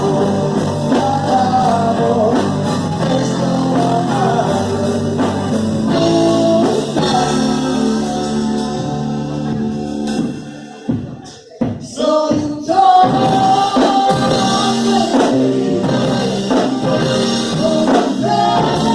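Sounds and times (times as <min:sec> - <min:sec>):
live rock band: 0:00.0 - 0:18.9
person singing: 0:00.0 - 0:18.9.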